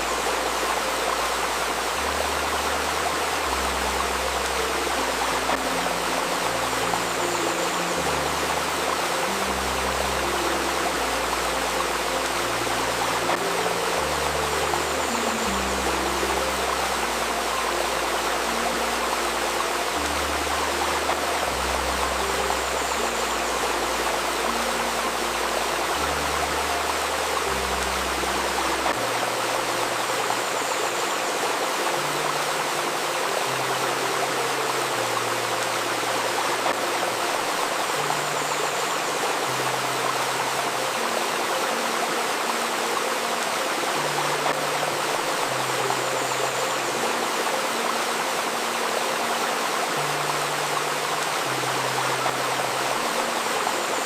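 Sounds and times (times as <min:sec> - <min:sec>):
stream rushing and babbling: 0:00.0 - 0:54.0.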